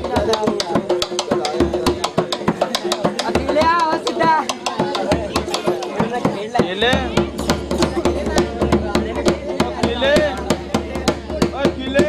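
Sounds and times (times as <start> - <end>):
dhol drum beating fast: 0.0 - 12.0.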